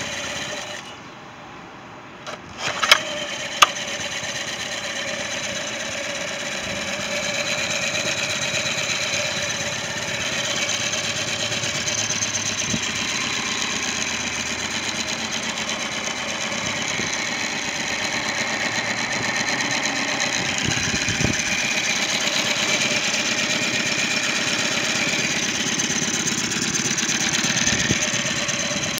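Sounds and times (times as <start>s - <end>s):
outboard motor running: 0.0s - 1.0s, 2.3s - 29.0s.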